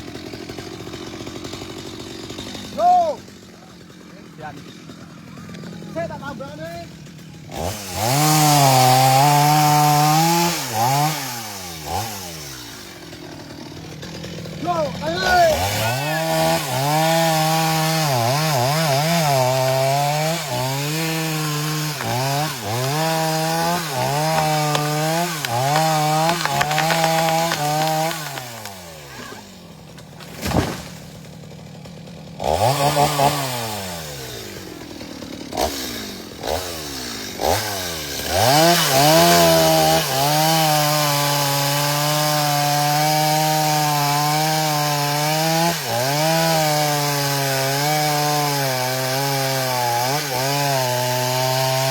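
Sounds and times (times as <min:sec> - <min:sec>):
chainsaw cutting: 0:00.0 - 0:51.9.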